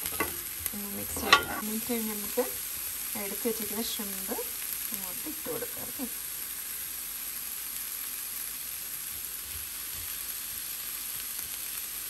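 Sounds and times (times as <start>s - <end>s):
shrimp sizzling in frying pan: 0.0s - 12.0s.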